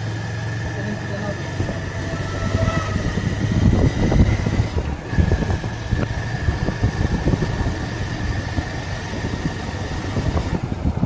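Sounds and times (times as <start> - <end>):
motorcycle engine running: 0.0 - 11.0
road noise: 0.0 - 11.0
wind buffeting microphone: 1.2 - 11.0.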